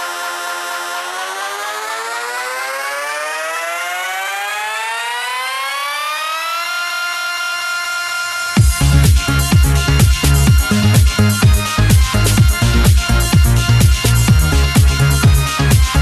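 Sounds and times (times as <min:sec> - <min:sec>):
rising synth tone: 0:00.0 - 0:16.0.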